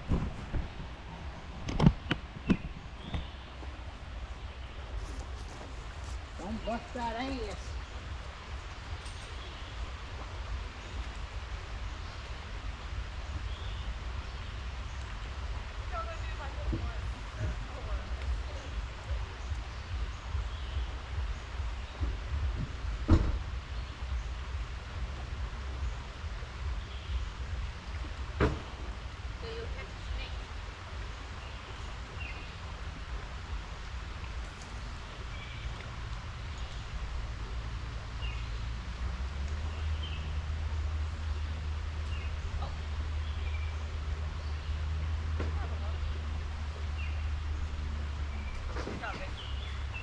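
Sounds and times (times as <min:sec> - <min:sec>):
wind rumble on microphone: 0:00.0 - 0:50.0.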